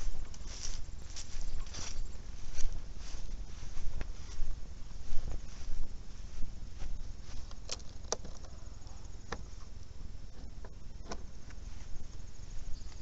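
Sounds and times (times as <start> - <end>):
footsteps in dry grass: 0.0 - 13.0
low microphone rumble: 0.0 - 13.0.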